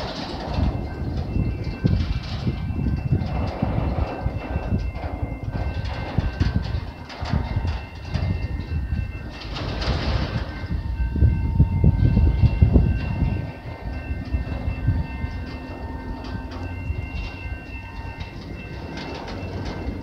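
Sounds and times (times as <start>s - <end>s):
freight train rumbling past: 0.0s - 20.0s
wheels clacking over rail joints: 0.0s - 20.0s.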